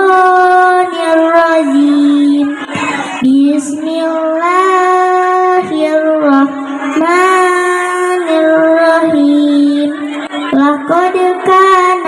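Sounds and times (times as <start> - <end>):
girl chanting through loudspeakers: 0.0 - 12.0.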